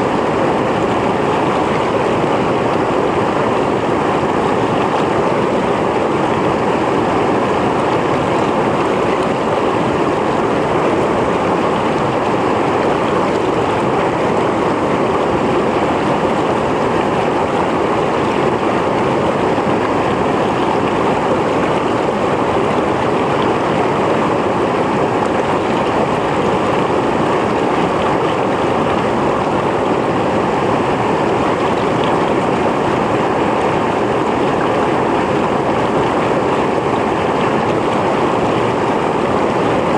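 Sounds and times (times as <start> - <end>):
stream splashing over rocks: 0.1 - 39.9.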